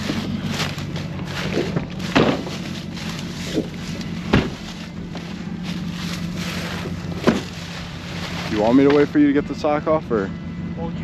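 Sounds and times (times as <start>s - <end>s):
footsteps crunching through brush: 0.0s - 9.2s
steady low hum: 0.0s - 11.0s.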